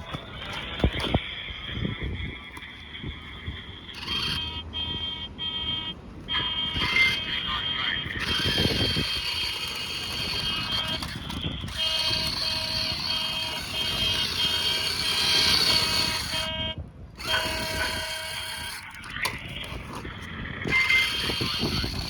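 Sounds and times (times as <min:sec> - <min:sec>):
high motor whine: 0:00.0 - 0:22.0.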